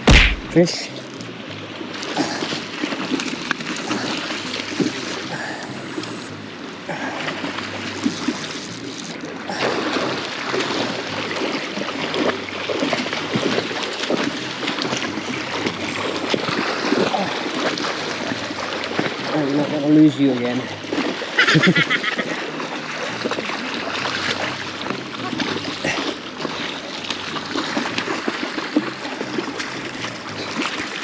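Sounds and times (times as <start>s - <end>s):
river water rushing and splashing: 0.0s - 31.0s.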